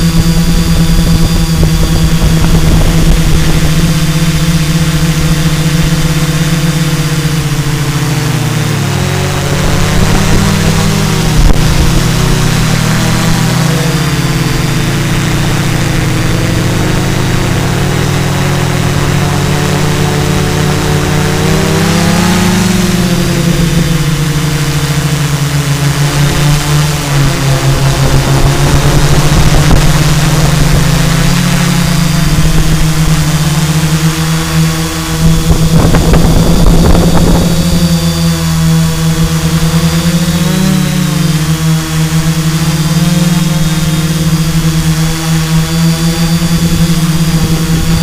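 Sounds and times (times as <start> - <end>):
drone motors humming: 0.0 - 48.0.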